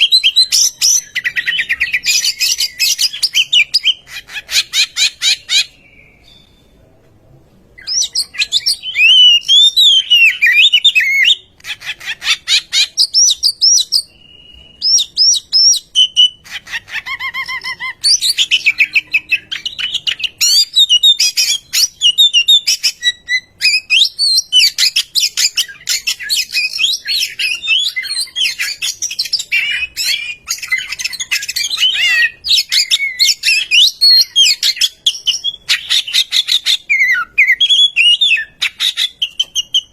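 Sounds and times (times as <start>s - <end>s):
songbird singing: 0.0s - 7.0s, 7.8s - 39.9s.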